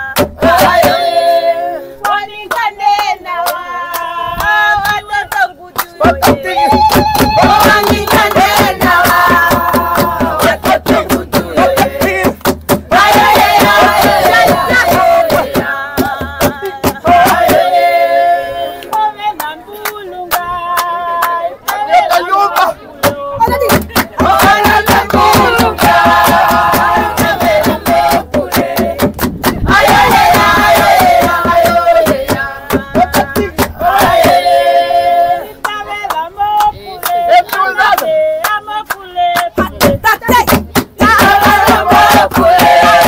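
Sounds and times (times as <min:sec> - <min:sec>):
group of people singing: 0:00.0 - 0:43.0
handclaps: 0:02.0 - 0:17.6, 0:18.8 - 0:34.4, 0:35.6 - 0:43.0.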